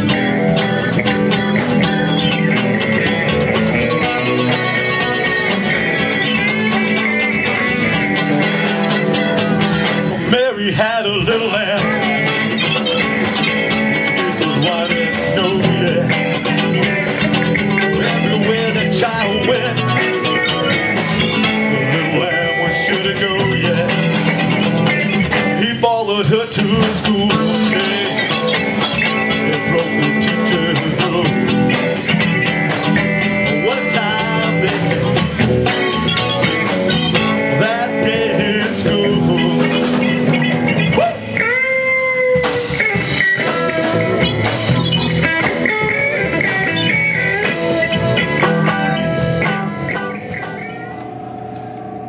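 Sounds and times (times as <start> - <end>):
blues band with guitar: 0.0 - 52.0.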